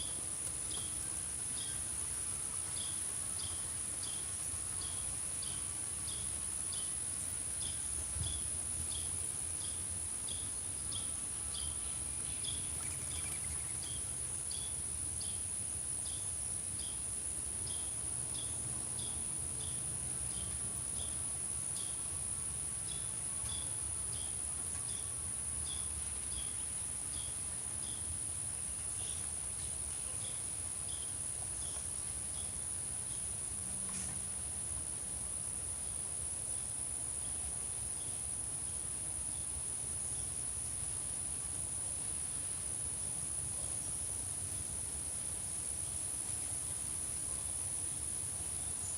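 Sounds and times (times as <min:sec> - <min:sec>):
crickets trilling and chirping: 0:00.0 - 0:48.9.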